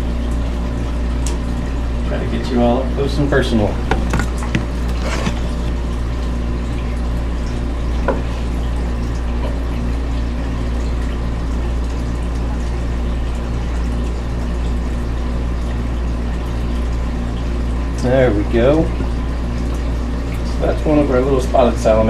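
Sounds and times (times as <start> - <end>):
aquarium pumps humming: 0.0 - 22.0
water trickling: 0.0 - 22.0.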